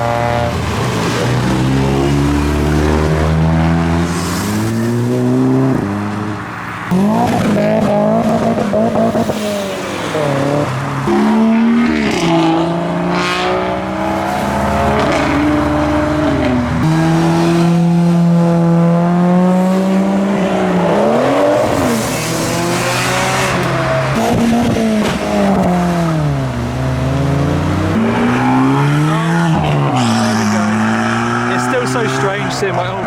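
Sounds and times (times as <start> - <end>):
car engines revving past: 0.0 - 33.0.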